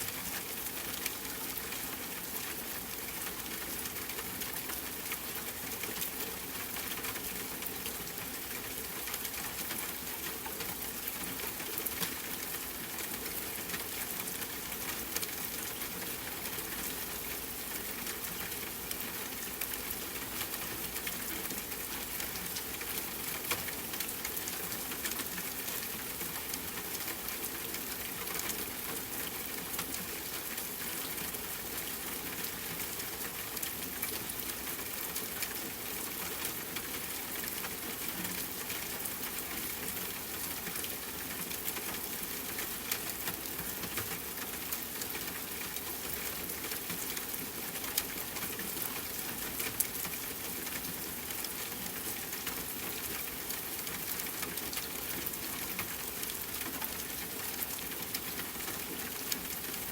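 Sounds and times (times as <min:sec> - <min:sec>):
soft rain: 0:00.0 - 0:59.9.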